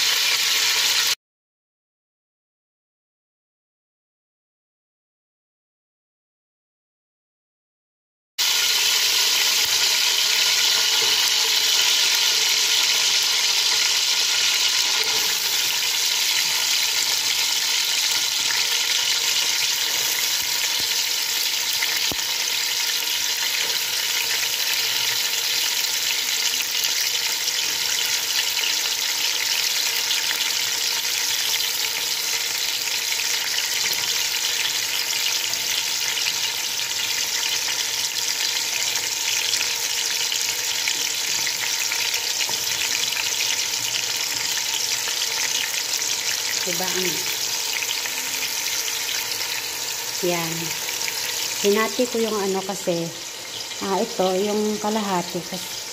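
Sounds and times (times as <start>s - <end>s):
vegetables sizzling in hot oil: 0.0s - 1.2s, 8.4s - 55.9s.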